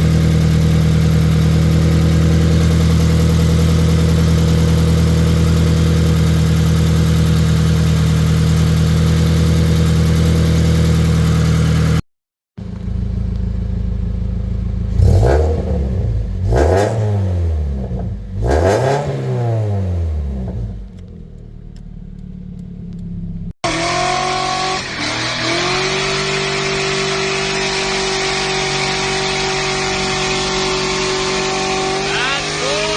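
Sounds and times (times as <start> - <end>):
car engine idling and revving: 0.0 - 12.0, 12.6 - 32.9.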